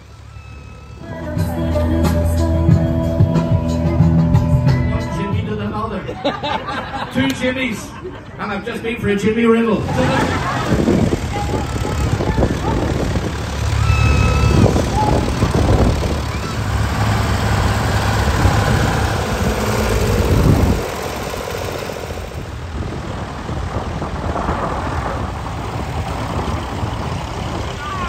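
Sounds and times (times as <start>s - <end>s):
lighter tractor engine: 0.0s - 5.6s, 9.6s - 28.0s
heavy low tractor engine: 0.0s - 8.4s, 9.0s - 28.0s.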